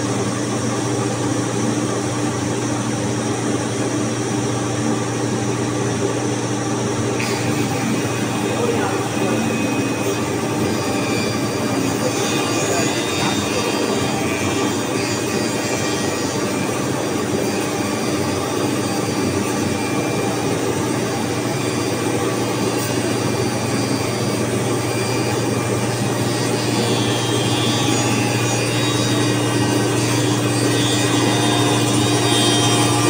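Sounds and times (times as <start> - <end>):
router cutting board: 6.4 - 33.0.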